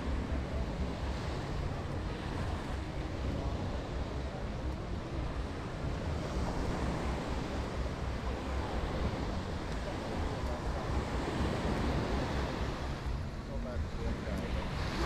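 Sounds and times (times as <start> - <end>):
surf washing onto beach: 0.0 - 15.0.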